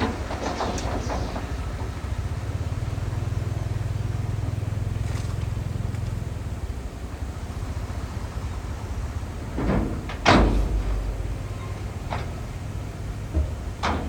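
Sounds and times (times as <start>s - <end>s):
heavy diesel engine rumbling: 0.0s - 14.0s.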